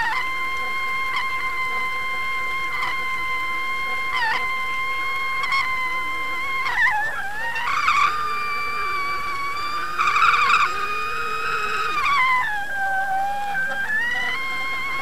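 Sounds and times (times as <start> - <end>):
underwater boat motor whine: 0.0 - 15.0.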